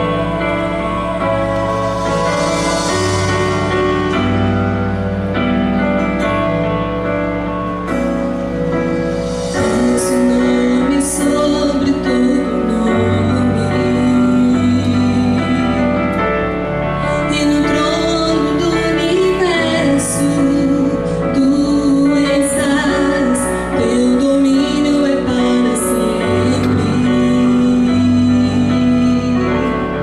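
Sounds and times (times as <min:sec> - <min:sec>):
woman singing into a microphone: 0:00.0 - 0:04.5, 0:09.4 - 0:16.3, 0:16.9 - 0:30.0
sustained chords and bass notes: 0:00.0 - 0:30.0.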